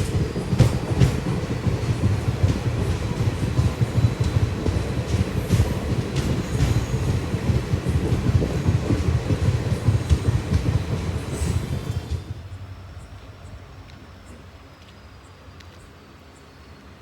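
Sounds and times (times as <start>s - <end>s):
train rumbling: 0.0s - 16.8s.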